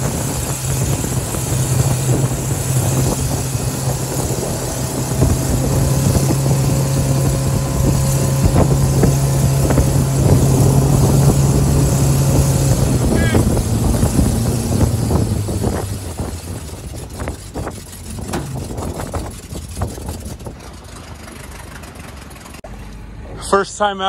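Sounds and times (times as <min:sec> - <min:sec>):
wind and water rushing: 0:00.0 - 0:22.4
boat engine running: 0:00.0 - 0:23.7.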